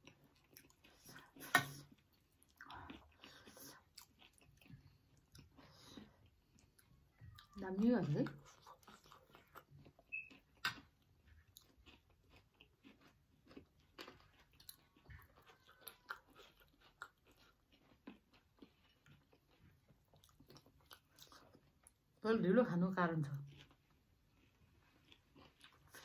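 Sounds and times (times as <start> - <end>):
chewing crunchy snack: 0.0 - 22.2, 23.2 - 26.0.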